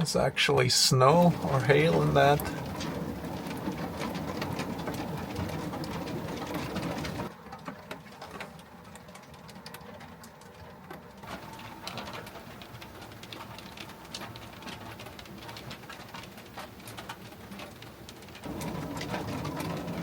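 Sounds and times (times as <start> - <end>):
hail ticking on van roof: 0.0 - 20.0.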